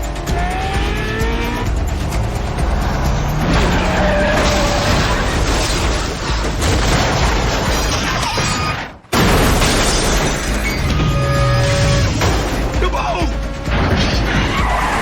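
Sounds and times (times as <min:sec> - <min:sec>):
film music score: 0:00.0 - 0:08.2, 0:10.4 - 0:15.0.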